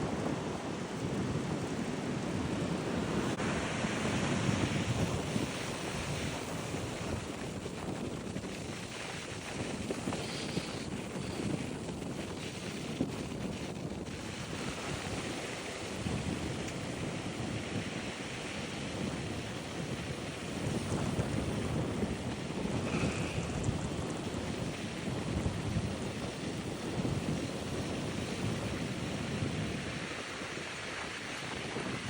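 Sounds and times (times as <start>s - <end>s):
surf: 0.0s - 32.0s
wind on microphone: 0.0s - 32.0s.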